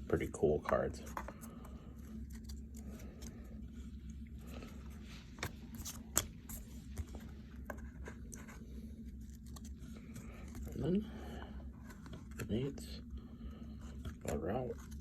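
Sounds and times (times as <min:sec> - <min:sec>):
steady low hum: 0:00.0 - 0:15.0
cards scraping and rustling: 0:00.2 - 0:15.0.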